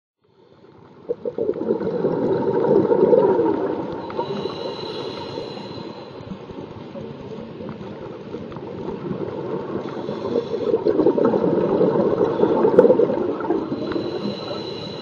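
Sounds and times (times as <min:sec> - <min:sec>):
underwater gurgling and bubbling: 0:00.4 - 0:15.0.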